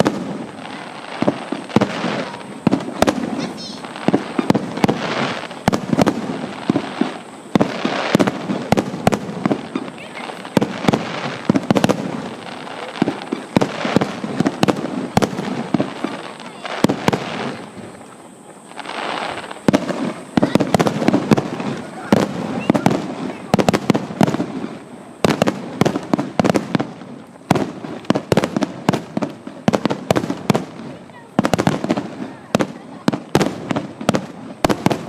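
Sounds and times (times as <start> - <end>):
fireworks bangs and crackles: 0.0 - 35.0
people's voices: 0.0 - 35.0.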